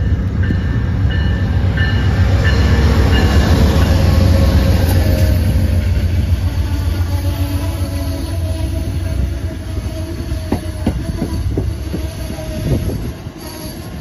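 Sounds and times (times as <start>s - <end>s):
diesel locomotive engine rumble: 0.0s - 14.0s
train wheel noise: 0.0s - 14.0s.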